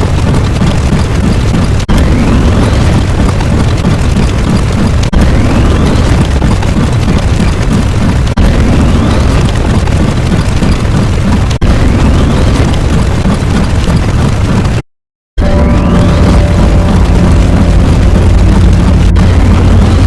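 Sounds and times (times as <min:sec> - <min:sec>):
rumbling explosion sound effect: 0:01.2 - 0:14.8, 0:15.4 - 0:20.0.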